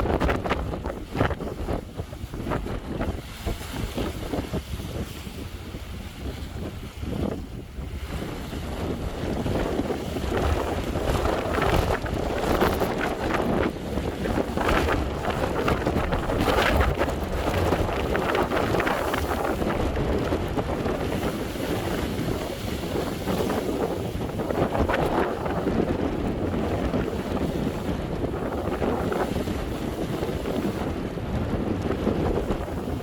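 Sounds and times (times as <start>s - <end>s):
ocean waves breaking: 0.0s - 33.0s
wind buffeting microphone: 0.0s - 33.0s.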